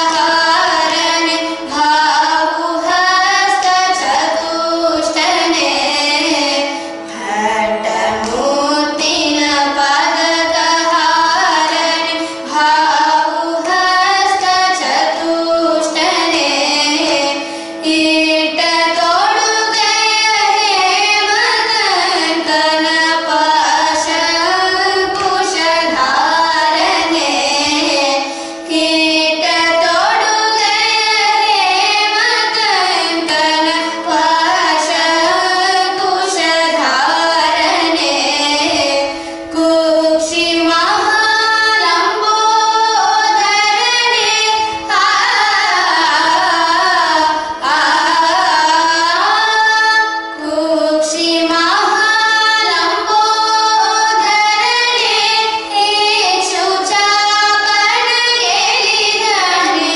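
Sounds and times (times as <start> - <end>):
girl and woman singing: 0.0 - 59.9
steady drone: 0.0 - 59.9.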